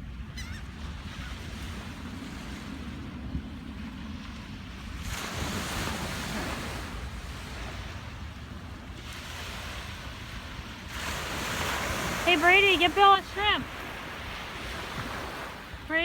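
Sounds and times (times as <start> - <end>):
wind buffeting microphone: 0.0 - 16.0
ocean surf: 0.9 - 16.0.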